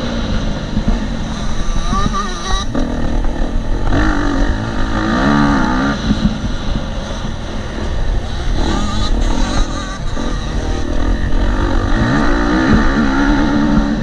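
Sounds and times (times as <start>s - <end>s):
motocross engine revving: 0.0s - 14.0s
wind noise: 0.0s - 14.0s.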